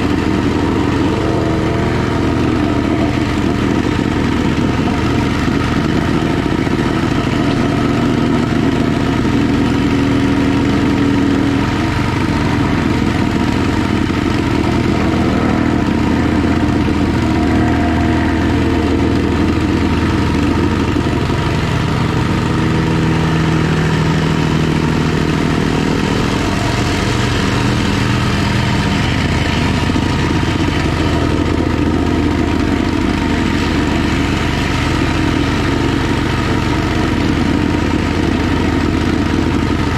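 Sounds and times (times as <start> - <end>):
plate compactor engine running: 0.0 - 39.9.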